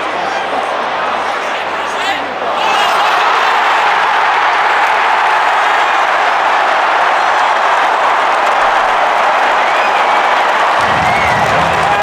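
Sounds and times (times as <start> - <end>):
stadium crowd cheering and applauding: 0.0 - 12.0.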